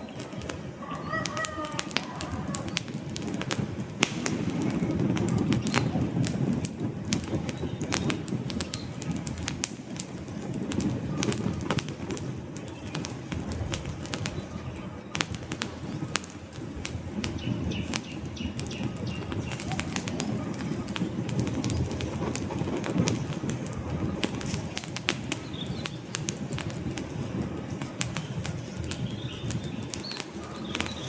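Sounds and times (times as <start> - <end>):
sharp pops: 0.0 - 31.0
wood fire crackling: 0.0 - 31.0.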